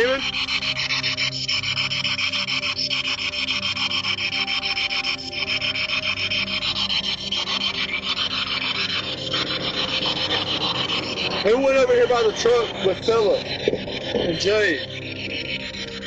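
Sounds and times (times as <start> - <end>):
pulsing radio static hiss: 0.0 - 16.0.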